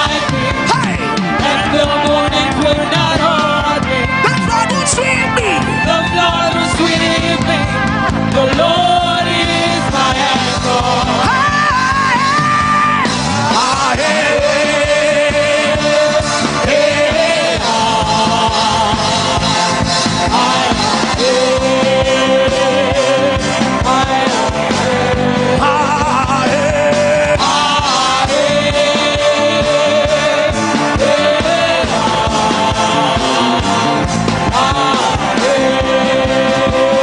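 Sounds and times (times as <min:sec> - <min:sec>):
worship band music: 0:00.0 - 0:37.0.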